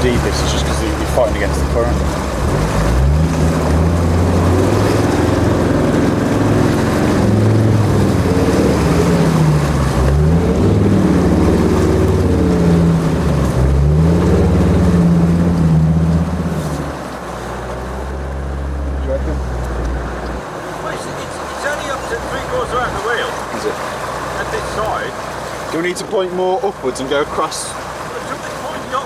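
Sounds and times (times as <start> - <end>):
diesel engine working hard: 0.0 - 25.9
water rushing around vehicle: 0.0 - 29.0.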